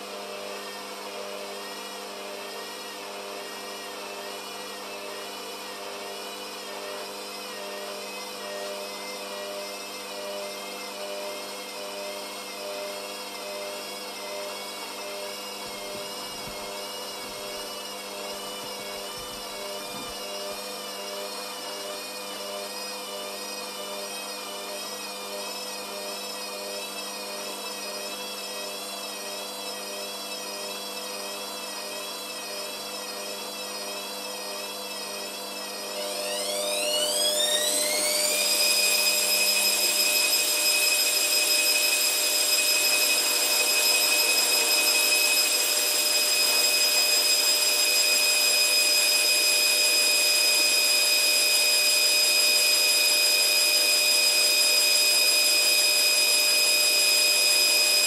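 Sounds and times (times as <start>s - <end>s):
washing machine motor whining: 0.0s - 58.0s.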